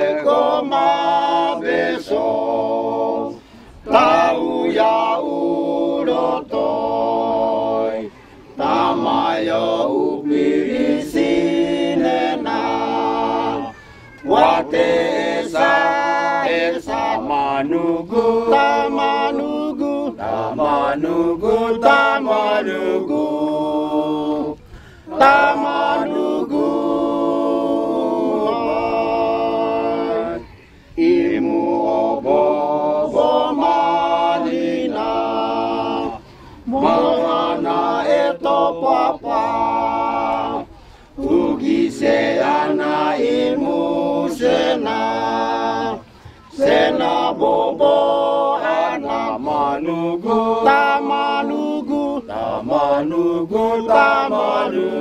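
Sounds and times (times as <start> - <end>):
men singing unaccompanied: 0.0 - 55.0.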